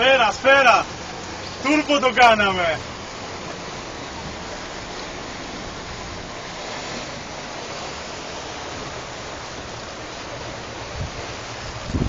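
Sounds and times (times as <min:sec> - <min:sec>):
water rushing along hull: 0:00.0 - 0:12.0.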